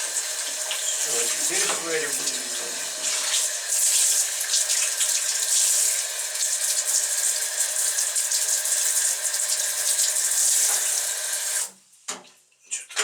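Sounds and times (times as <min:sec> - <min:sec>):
tap water running and splashing: 0:00.0 - 0:11.8.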